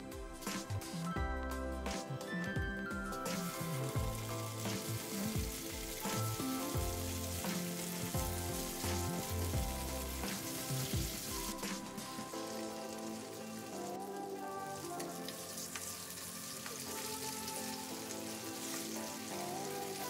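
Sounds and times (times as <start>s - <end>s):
soft background music: 0.0s - 20.0s
tofu sizzling in oil: 3.2s - 20.0s.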